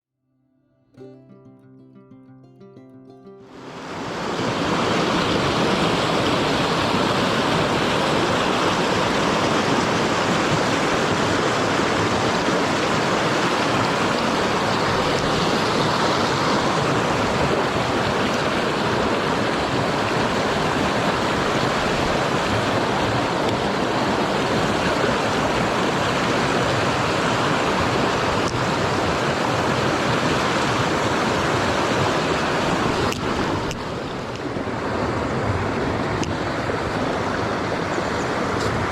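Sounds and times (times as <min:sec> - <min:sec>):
stream water rushing: 0:03.4 - 0:38.9.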